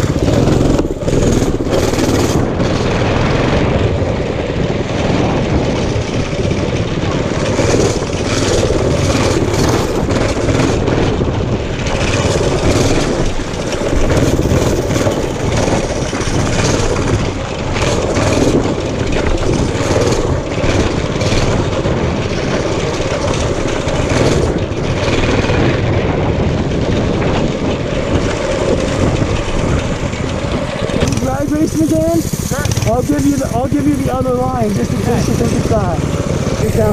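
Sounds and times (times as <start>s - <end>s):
mini bike engine running: 0.0s - 36.9s.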